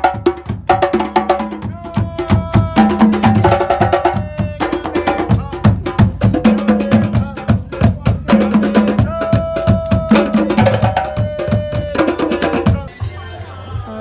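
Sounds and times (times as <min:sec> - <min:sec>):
hand drums fast rhythm: 0:00.0 - 0:12.9.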